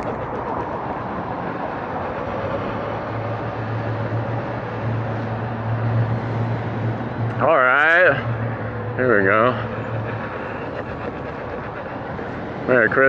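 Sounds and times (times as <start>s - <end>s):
cars passing: 0.0s - 13.0s
wind rush and road noise: 0.0s - 13.0s.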